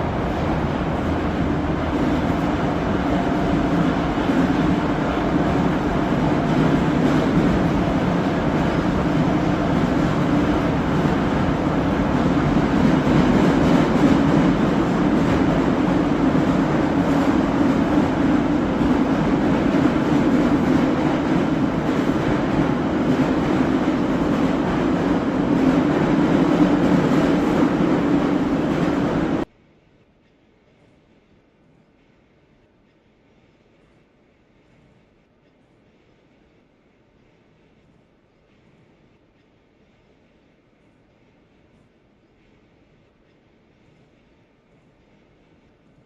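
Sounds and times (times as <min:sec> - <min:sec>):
train rumbling through tunnel: 0:00.0 - 0:46.0.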